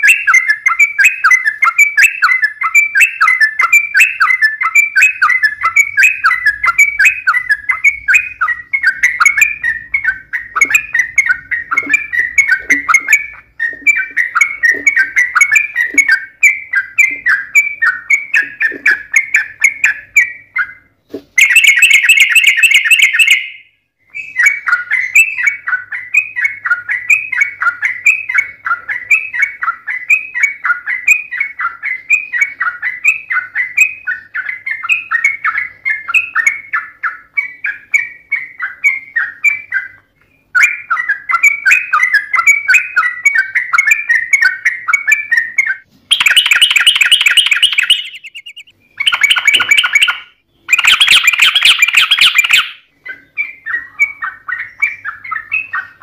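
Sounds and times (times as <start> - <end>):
bird singing bubbly chattering phrases: 0.0 - 56.0.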